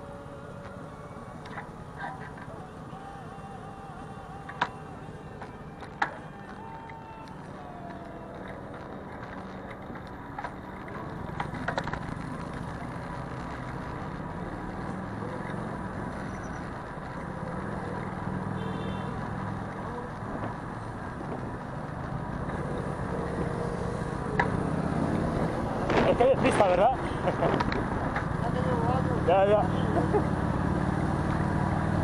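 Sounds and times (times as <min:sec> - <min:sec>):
vehicles passing: 0:00.0 - 0:32.0.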